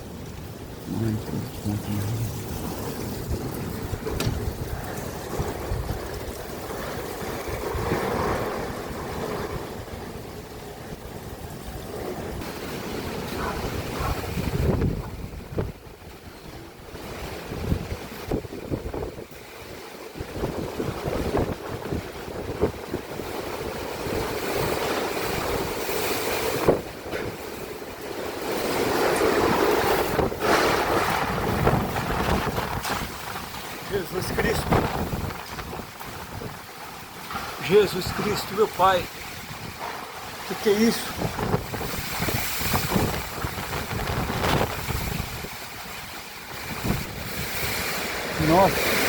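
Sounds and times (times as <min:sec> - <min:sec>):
heavy rain and hail: 0:00.0 - 0:49.0
wind gusting on microphone: 0:00.0 - 0:49.0.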